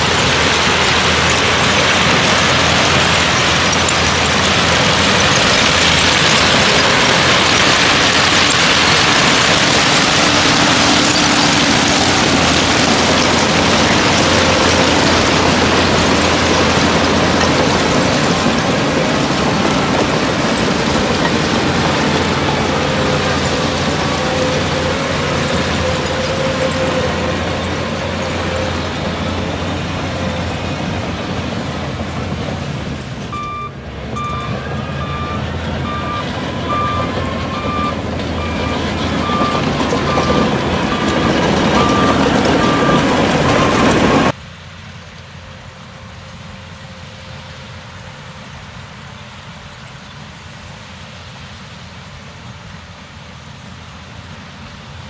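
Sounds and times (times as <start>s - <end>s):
reversing alarm beeping: 0.0s - 44.3s
bulldozer diesel engine running: 0.0s - 49.7s.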